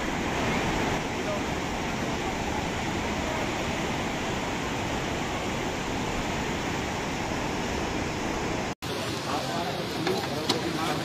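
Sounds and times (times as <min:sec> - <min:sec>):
river rushing water: 0:00.0 - 0:11.0.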